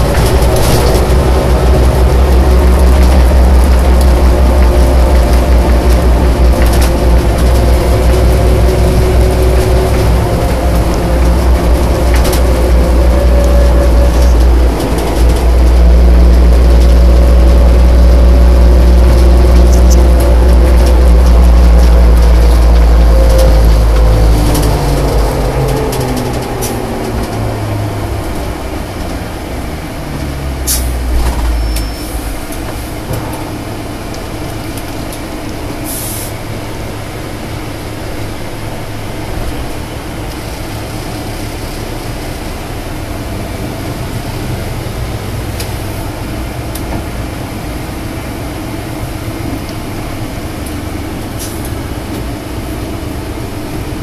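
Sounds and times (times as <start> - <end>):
heavy truck engine running: 0.0 - 54.0.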